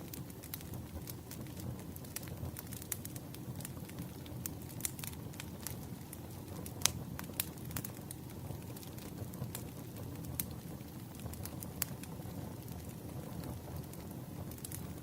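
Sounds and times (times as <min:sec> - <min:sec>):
wood crackling and popping: 0:00.0 - 0:15.0
fire flames rushing: 0:00.1 - 0:15.0.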